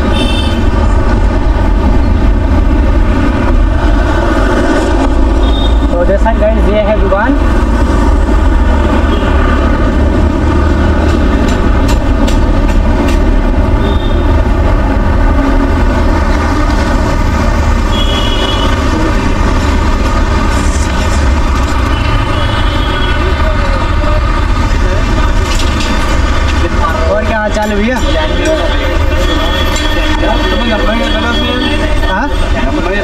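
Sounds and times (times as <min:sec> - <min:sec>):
street traffic rumble: 0:00.0 - 0:33.0.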